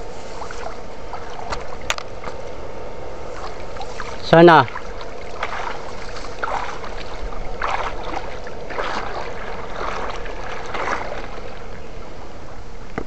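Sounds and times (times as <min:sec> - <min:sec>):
water sloshing and splashing: 0:00.0 - 0:02.6, 0:03.2 - 0:13.0
faint constant hum: 0:00.0 - 0:13.0.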